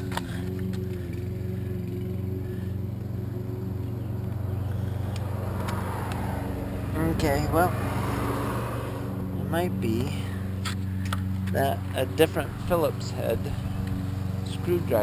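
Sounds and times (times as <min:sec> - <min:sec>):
engine idling drone: 0:00.0 - 0:15.0.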